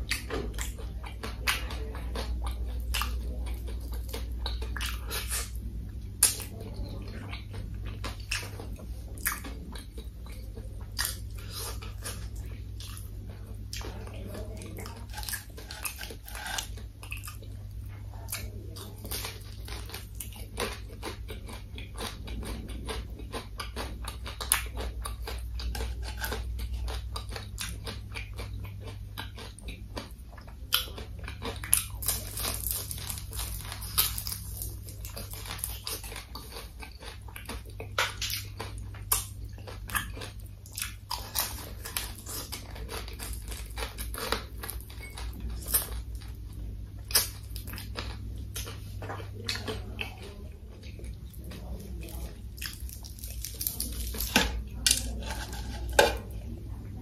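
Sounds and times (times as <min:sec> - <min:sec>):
chewing crispy fried food: 0:00.0 - 0:57.0
low steady hum: 0:00.0 - 0:57.0.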